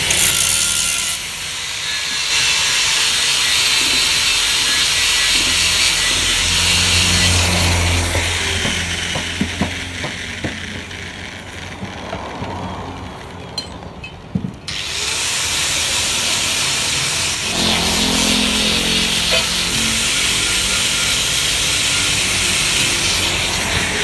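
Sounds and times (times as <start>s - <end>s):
power tool running: 0.0s - 12.0s, 14.7s - 24.0s.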